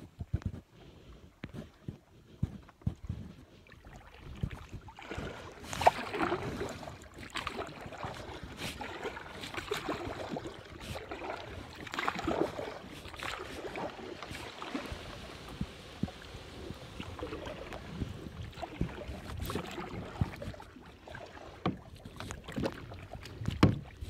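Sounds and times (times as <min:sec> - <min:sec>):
paddle splashing in water: 0:03.1 - 0:24.0.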